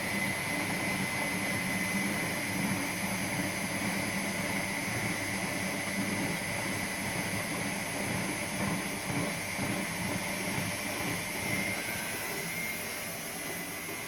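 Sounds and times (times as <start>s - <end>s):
washing machine whirring: 0.0s - 14.0s.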